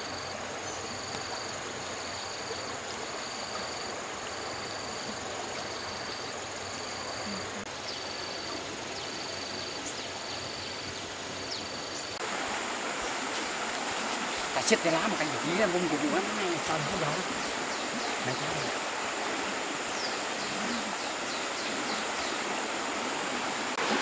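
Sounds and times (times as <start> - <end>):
high insect buzz: 0.0 - 24.0
insect pulsed calls: 0.0 - 24.0
stream water flowing: 0.0 - 24.0.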